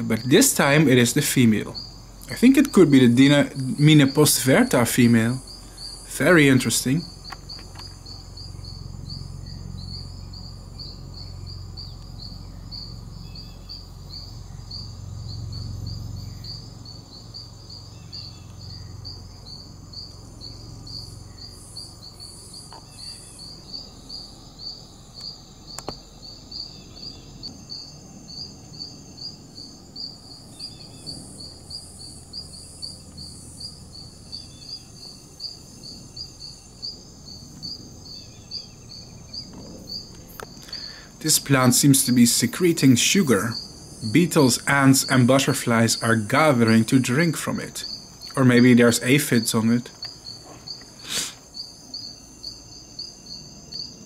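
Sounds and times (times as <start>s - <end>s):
cricket-like insect chirping: 0.0s - 54.0s
high whine of insects: 0.0s - 54.0s.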